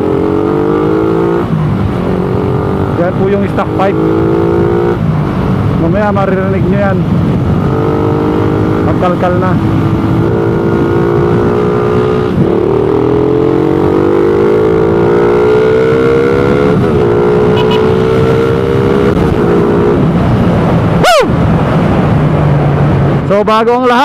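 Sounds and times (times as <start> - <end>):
motorcycle engine revving: 0.0 - 23.2.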